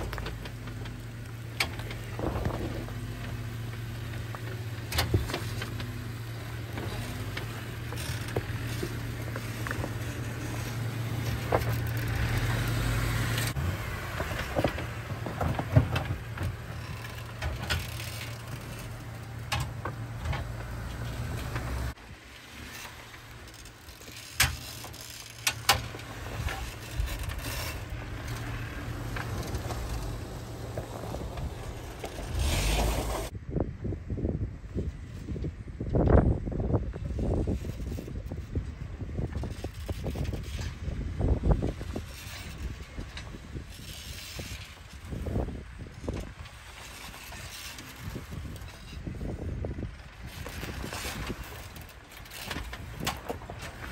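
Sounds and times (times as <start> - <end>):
tyres crunching over rock: 0.0 - 33.3, 39.2 - 53.9
car engine running at low revs: 0.0 - 53.9.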